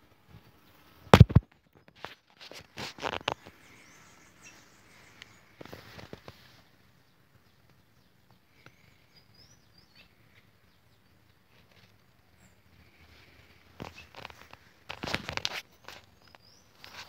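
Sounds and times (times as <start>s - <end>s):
faint bird chirps: 3.0s - 17.0s.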